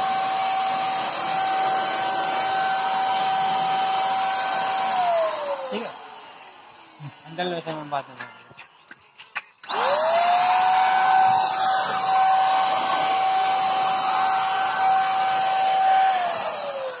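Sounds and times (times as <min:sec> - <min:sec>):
paint sprayer motor whine: 0:00.0 - 0:08.3, 0:09.6 - 0:17.0.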